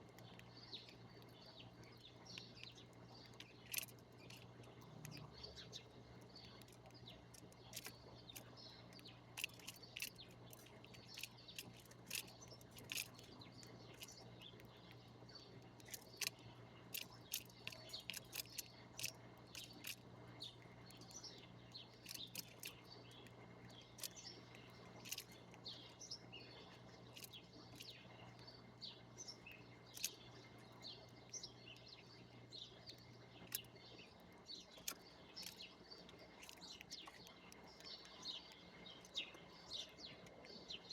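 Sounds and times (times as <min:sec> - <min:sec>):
faint low hum: 0:00.0 - 0:40.9
small birds chirping: 0:00.0 - 0:40.9.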